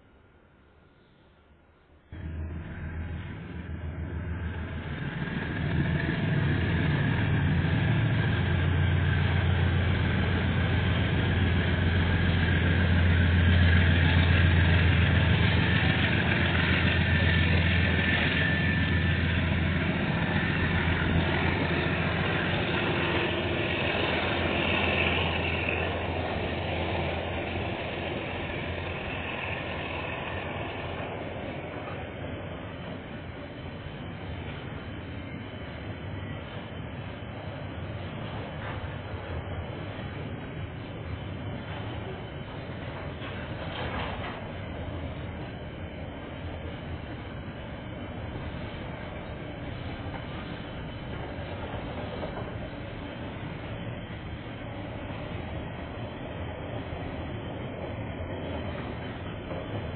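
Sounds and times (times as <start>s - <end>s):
diesel locomotive engine drone: 0.0s - 59.9s
freight wagons rumbling past: 2.2s - 59.9s.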